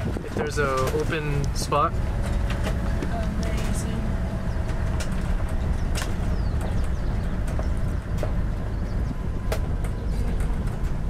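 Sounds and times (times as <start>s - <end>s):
knocks and rattles: 0.0s - 11.0s
vehicle rumble from inside cabin: 0.0s - 11.0s.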